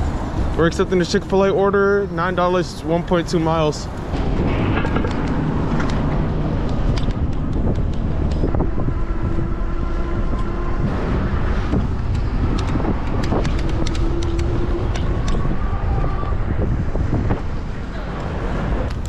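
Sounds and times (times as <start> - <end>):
steady whine: 0.0 - 19.0
wind noise on microphone: 0.0 - 19.0.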